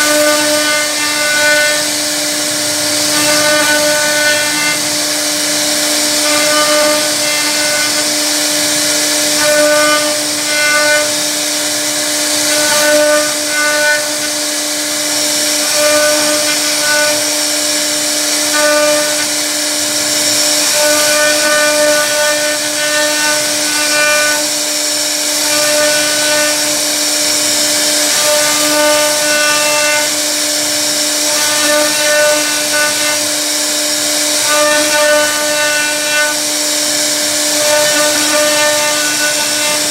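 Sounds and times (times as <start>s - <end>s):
bit cutting wood hiss: 0.0s - 39.9s
cnc router spindle whine: 0.0s - 39.9s
higher-pitched machine whine: 0.0s - 39.9s.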